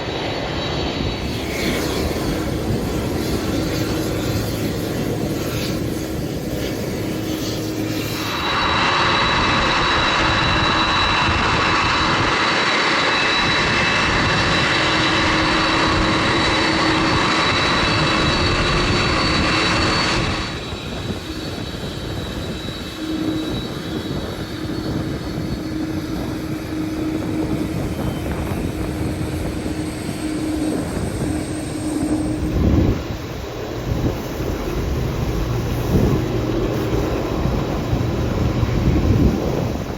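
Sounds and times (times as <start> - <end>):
jet engines humming: 0.0 - 39.9
rushing whine with high tones: 0.0 - 39.9.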